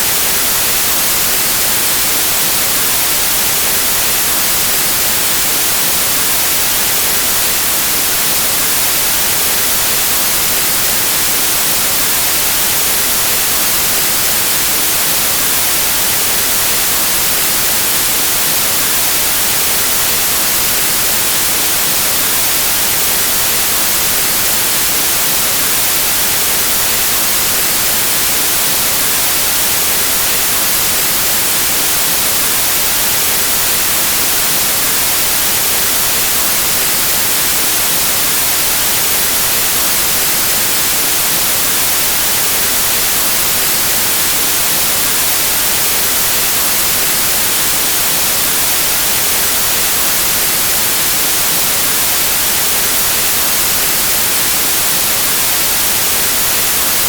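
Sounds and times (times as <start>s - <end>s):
white noise static hiss: 0.0s - 57.0s.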